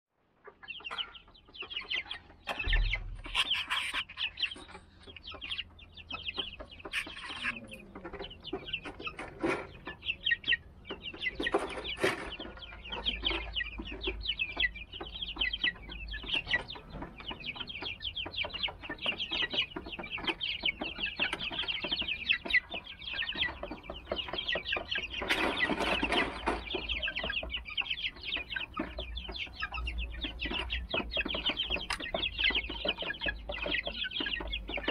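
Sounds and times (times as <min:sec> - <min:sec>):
chicks cheeping: 0:00.1 - 0:34.9.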